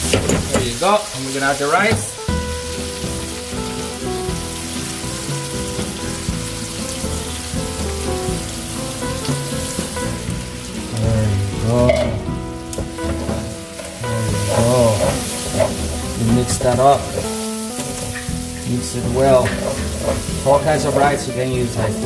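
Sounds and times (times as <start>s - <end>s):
hot oil sizzling in a frying pan: 0.0s - 22.0s
rice grains pattering into pan: 0.0s - 22.0s.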